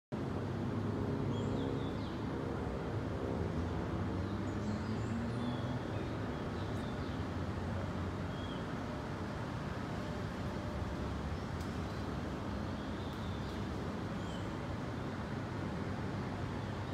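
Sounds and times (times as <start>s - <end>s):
city traffic drone: 0.2s - 16.9s.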